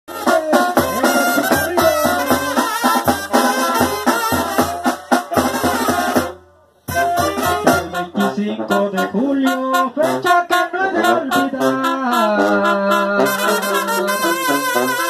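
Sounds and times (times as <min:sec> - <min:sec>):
brass band playing: 0:00.1 - 0:15.0.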